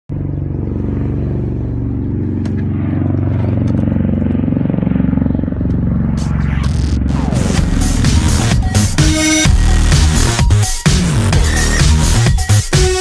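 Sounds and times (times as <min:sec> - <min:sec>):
vehicle engine running: 0:00.1 - 0:12.6.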